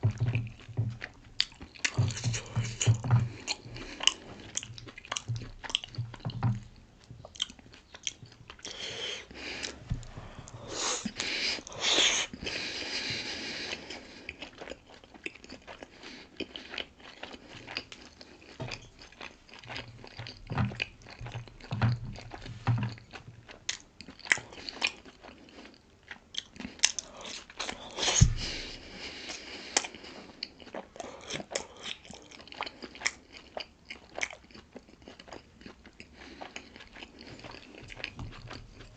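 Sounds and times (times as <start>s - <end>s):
close chewing and biting: 0.0s - 38.9s.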